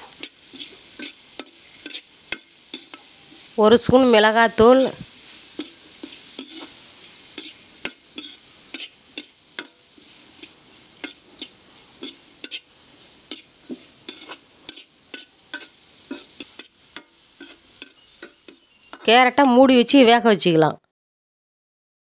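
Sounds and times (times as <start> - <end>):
metal spatula scraping and clinking: 0.0 - 3.6, 4.7 - 19.1
faint oil sizzle: 0.0 - 20.6.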